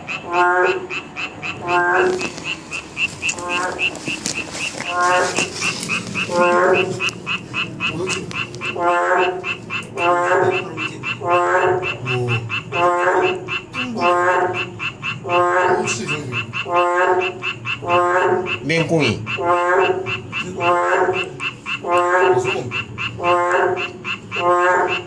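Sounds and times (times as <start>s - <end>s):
frog bleating croak: 0.0s - 25.0s
high ticking call: 0.0s - 25.0s.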